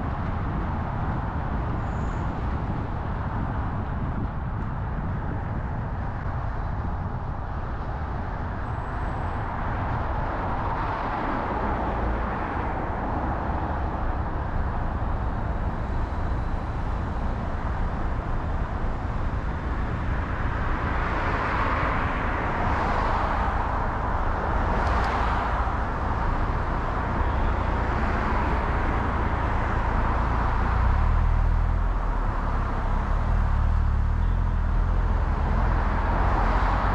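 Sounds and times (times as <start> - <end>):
car road noise rumble: 0.0 - 36.9
vehicles passing: 0.0 - 36.9.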